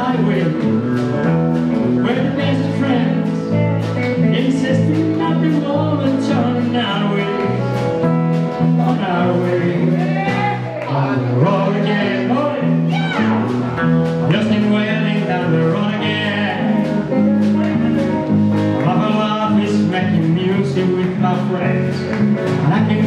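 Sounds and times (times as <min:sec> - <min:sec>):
country band playing: 0:00.0 - 0:23.0.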